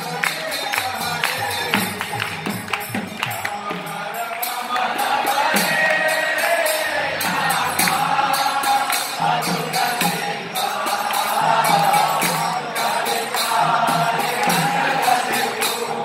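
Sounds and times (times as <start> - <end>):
crowd chanting in unison: 0.0 - 16.0
hand cymbals clashing: 0.0 - 16.0.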